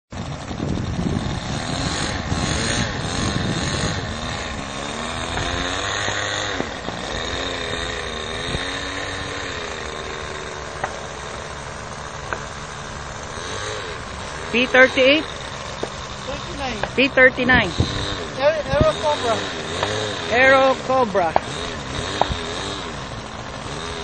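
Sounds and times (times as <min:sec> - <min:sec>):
model airplane engine droning: 0:00.1 - 0:24.0.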